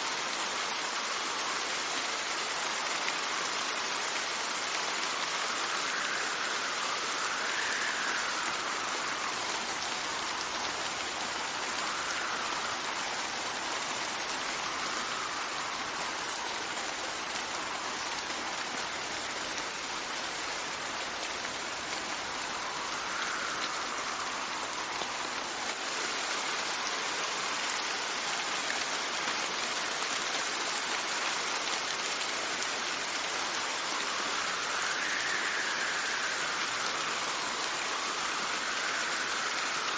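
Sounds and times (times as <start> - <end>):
steady rain falling: 0.0 - 39.9
wind gusts: 0.0 - 39.9.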